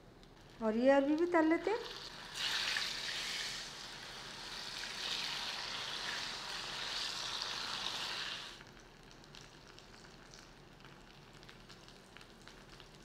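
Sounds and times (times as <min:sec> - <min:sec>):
food sizzling in hot oil: 0:00.4 - 0:13.0.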